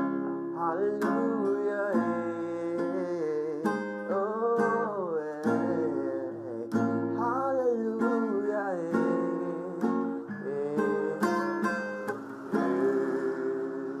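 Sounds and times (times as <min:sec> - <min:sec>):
person singing gospel song: 0:00.0 - 0:14.0
strummed acoustic guitar: 0:00.0 - 0:14.0.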